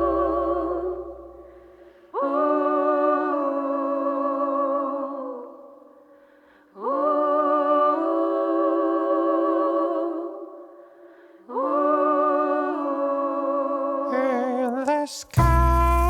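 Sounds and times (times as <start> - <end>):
sustained vocal harmony: 0.0 - 16.0.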